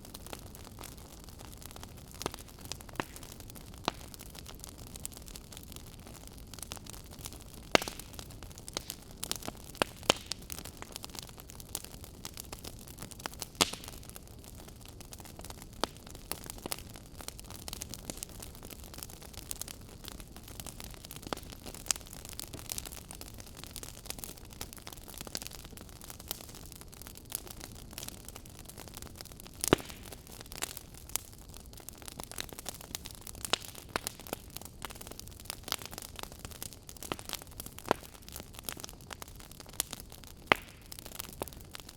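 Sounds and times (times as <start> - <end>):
fire popping and snapping: 0.0 - 41.9.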